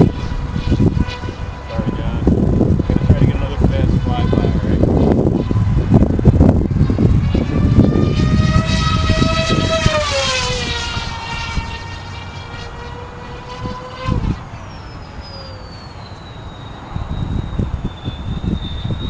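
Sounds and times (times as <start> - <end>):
model plane motors whining: 0.0 - 19.0
wind rumbling on microphone: 0.0 - 19.0.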